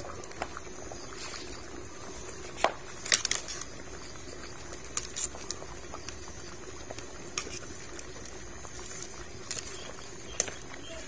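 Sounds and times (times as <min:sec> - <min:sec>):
pot of curry boiling: 0:00.0 - 0:11.0.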